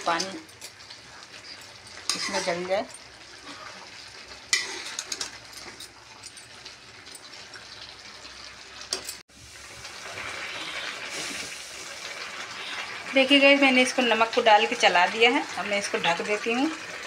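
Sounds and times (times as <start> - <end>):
food simmering and sizzling in pan: 0.0 - 17.0.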